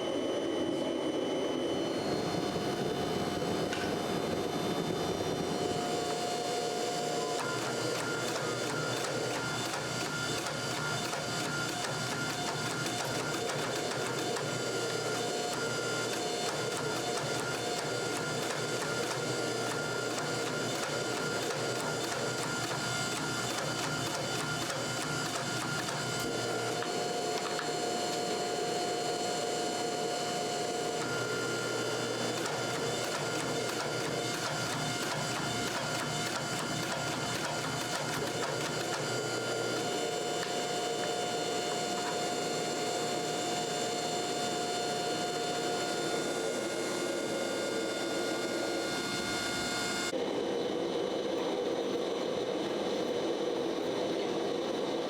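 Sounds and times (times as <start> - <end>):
machine whine: 0.0 - 55.0.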